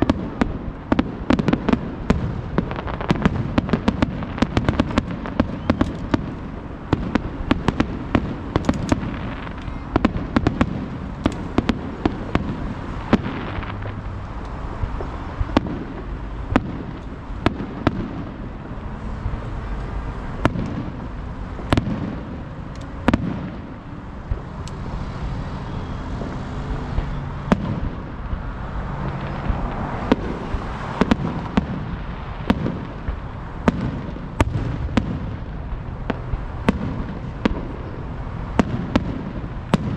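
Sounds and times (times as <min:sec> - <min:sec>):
fireworks cracks and bangs: 0:00.0 - 0:39.9.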